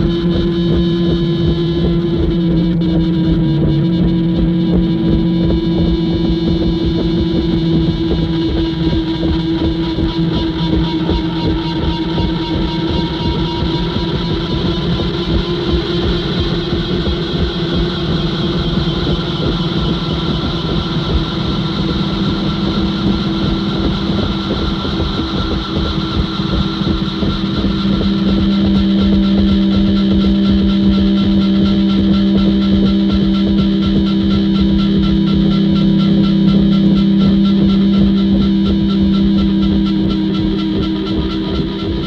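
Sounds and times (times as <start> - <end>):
engine-like droning buzz: 0.0 - 42.0.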